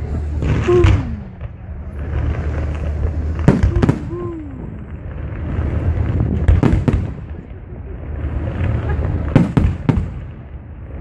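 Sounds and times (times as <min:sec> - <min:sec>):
fireworks bangs: 0:00.0 - 0:11.0
low rumble: 0:00.0 - 0:11.0.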